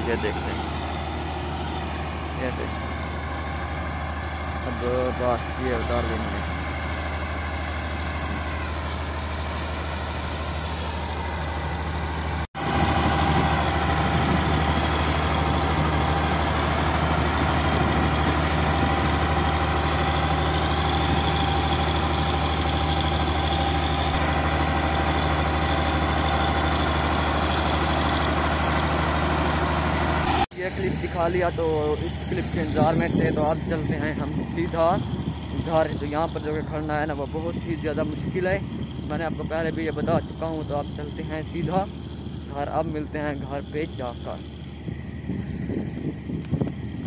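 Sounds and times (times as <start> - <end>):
diesel engine running under load: 0.0 - 47.0
machine whine: 0.0 - 47.0.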